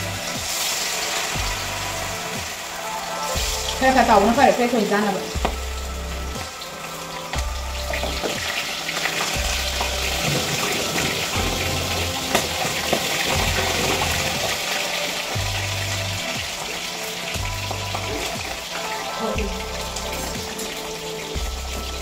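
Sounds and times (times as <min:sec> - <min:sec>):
background music with bass: 0:00.0 - 0:22.0
oil sizzling in a wok: 0:00.0 - 0:22.0.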